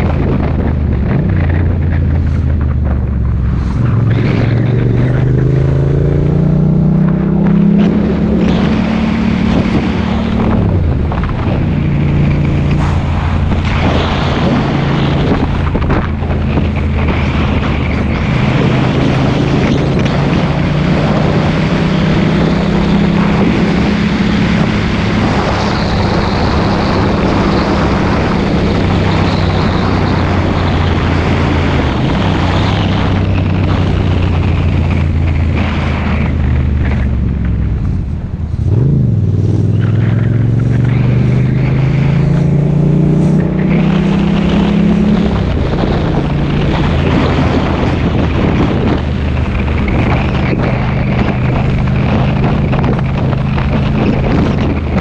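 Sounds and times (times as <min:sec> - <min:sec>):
motorcycle engine running: 0:00.0 - 0:55.0
wind rush over microphone: 0:00.0 - 0:55.0.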